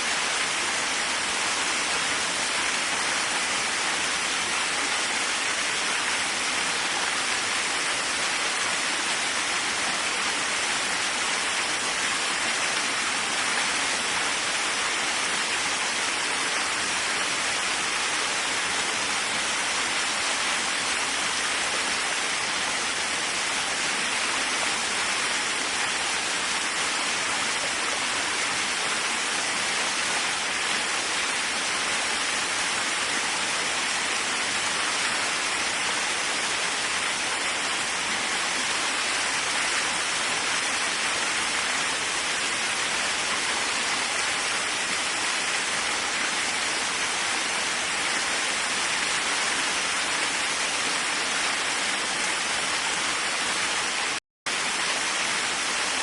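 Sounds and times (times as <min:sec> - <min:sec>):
waterfall hissing: 0:00.0 - 0:56.0.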